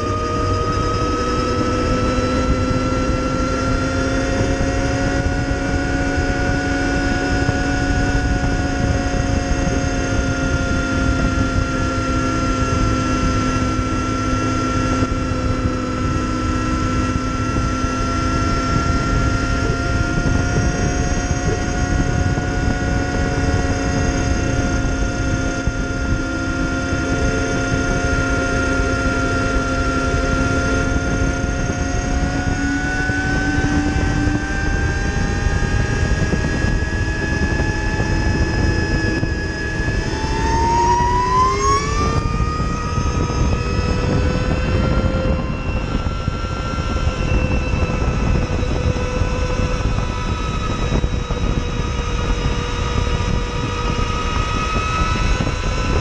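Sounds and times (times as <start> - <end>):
electric motorcycle motor whine: 0.0 - 56.0
wind and road noise: 0.0 - 56.0.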